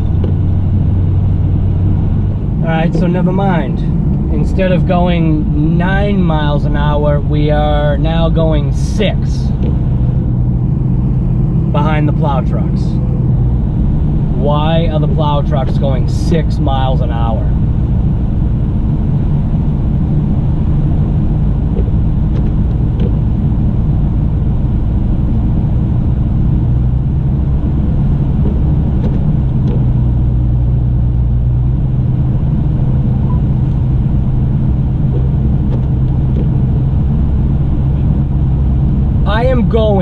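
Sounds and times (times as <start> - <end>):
road noise: 0.0 - 40.0
truck engine running: 0.0 - 40.0.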